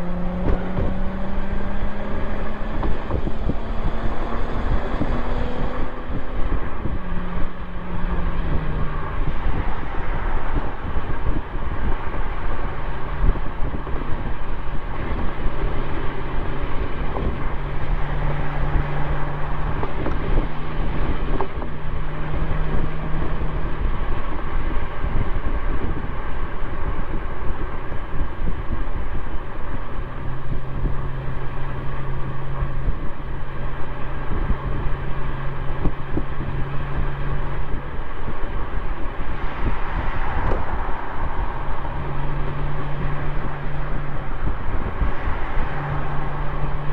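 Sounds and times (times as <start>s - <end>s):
car exhaust while driving: 0.0s - 46.9s
road noise: 0.0s - 46.9s
wind noise on microphone: 0.0s - 46.9s.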